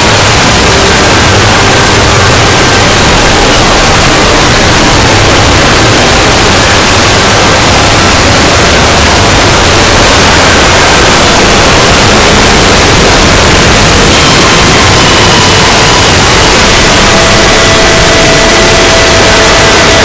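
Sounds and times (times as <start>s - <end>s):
distorted digital noise: 0.0s - 20.0s.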